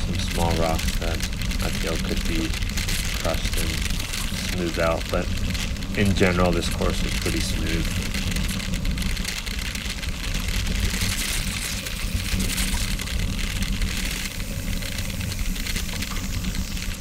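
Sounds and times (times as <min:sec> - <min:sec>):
tyres rolling on gravel: 0:00.0 - 0:17.0.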